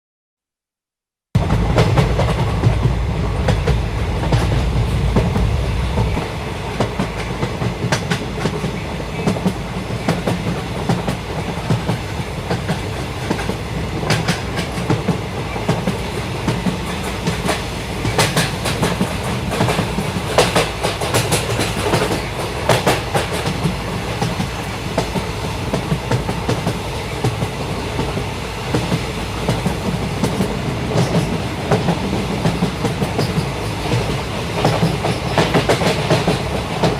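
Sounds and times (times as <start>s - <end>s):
train wheels rumbling on rails: 1.4s - 36.9s.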